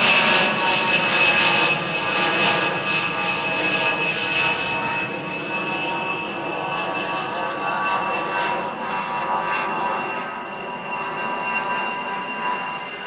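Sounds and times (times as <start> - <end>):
jet engine roar with whine: 0.0 - 13.0.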